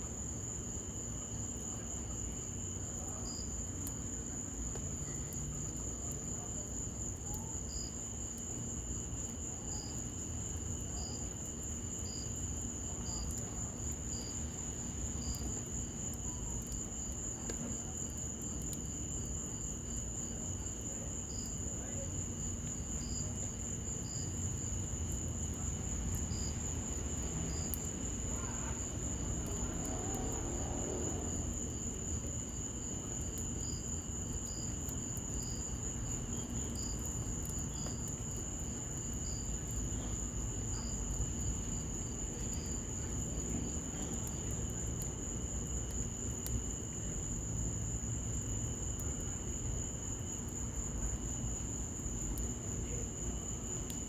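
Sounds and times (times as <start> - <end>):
crickets trilling: 0.0 - 54.0
rain hiss: 0.0 - 54.0
wood fire crackling: 0.0 - 54.0
insect chirping: 0.2 - 54.0.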